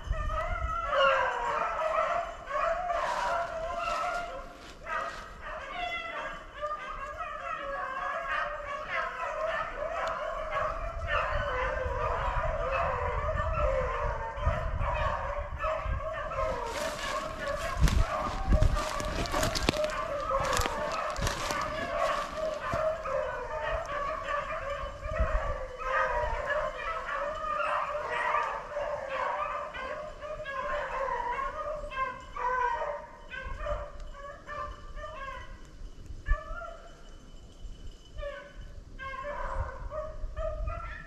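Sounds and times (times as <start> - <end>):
dogs baying: 0.1 - 35.6.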